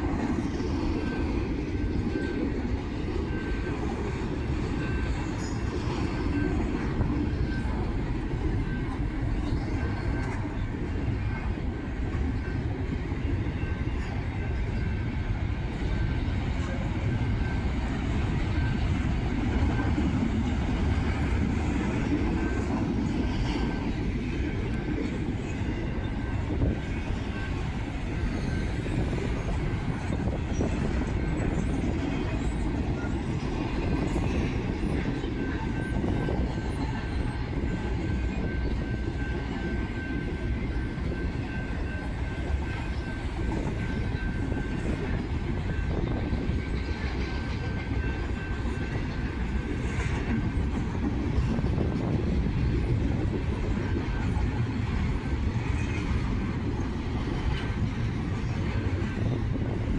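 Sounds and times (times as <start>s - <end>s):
freight train wheels rumbling on rails: 0.0s - 59.9s
high whine from train wheels: 0.0s - 59.9s.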